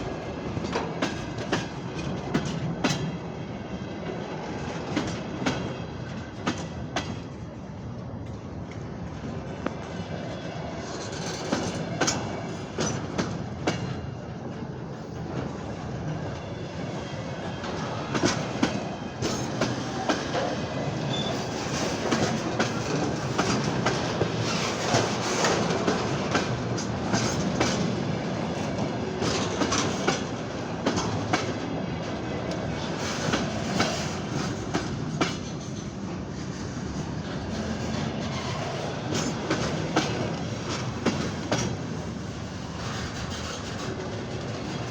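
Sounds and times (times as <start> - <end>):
freight train wheels clicking on rails: 0.0 - 44.9.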